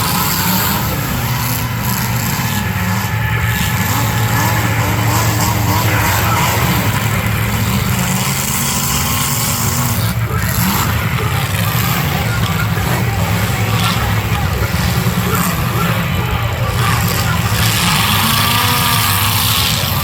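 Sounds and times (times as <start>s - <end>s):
car engines running: 0.0s - 20.0s.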